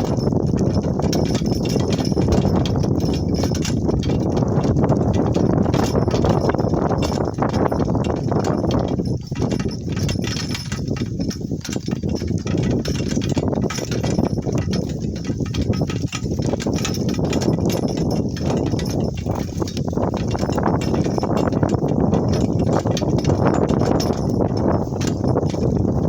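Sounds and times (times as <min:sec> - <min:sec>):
cart rattling over rough ground: 0:00.0 - 0:26.0
donkey hoofbeats clopping: 0:00.0 - 0:26.0.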